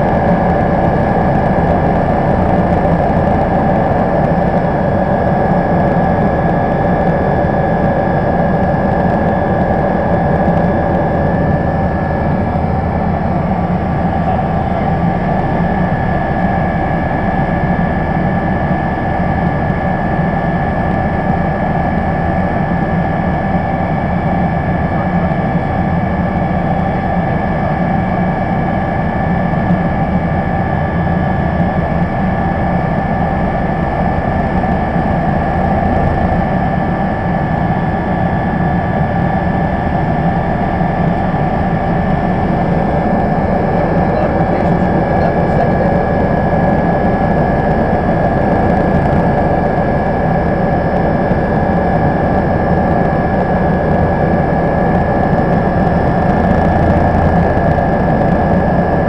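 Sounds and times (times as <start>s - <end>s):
helicopter rotor rumble: 0.0s - 59.0s
turbine engine whine: 0.0s - 59.0s.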